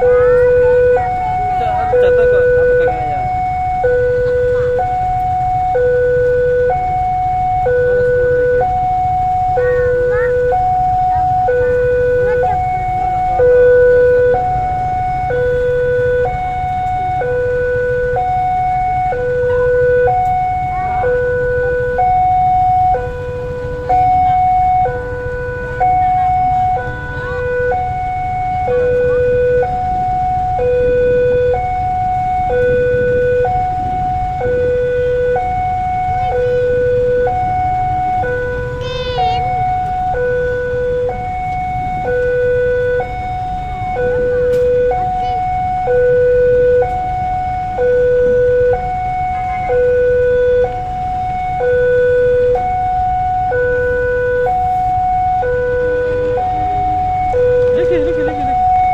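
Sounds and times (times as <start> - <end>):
two-tone siren: 0.0 - 58.9.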